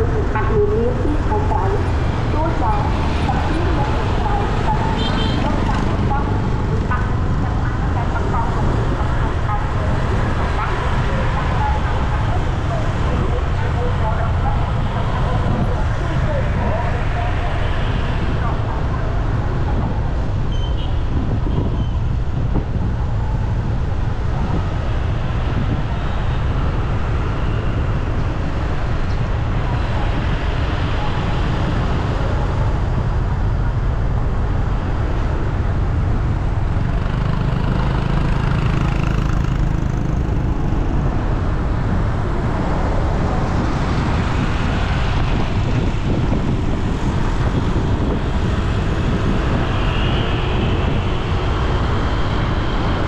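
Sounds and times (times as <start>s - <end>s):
road traffic rumble: 0.0s - 53.0s.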